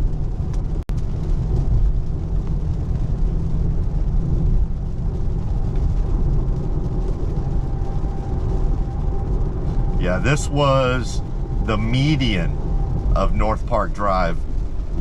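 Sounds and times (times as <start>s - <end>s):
car road rumble on wet pavement: 0.0s - 15.0s.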